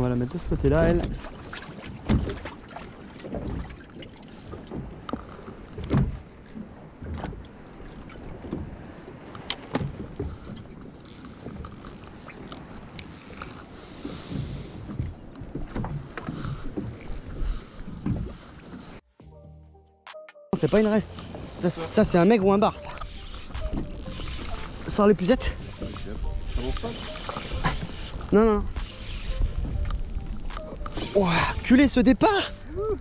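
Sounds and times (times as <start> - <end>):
water lapping at hull: 0.0 - 19.0, 20.6 - 33.0.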